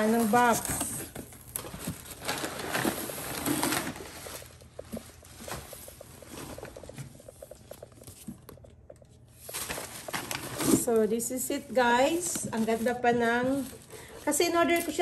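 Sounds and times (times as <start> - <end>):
paper and cardboard rustling: 0.0 - 15.0.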